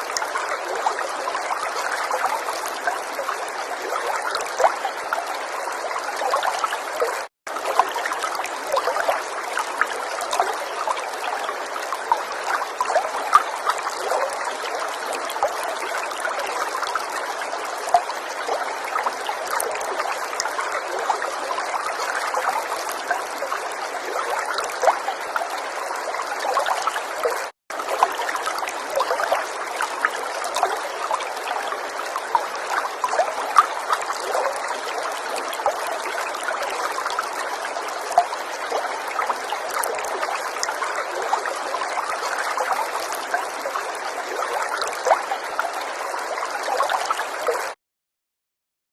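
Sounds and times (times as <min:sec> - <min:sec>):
water falling and trickling: 0:00.0 - 0:46.0
small water drips: 0:00.0 - 0:46.1.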